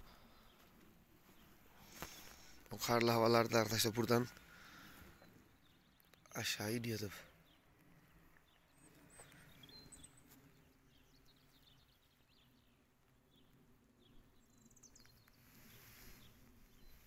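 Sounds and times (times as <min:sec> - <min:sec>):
faint bird chirps: 0:01.3 - 0:17.0.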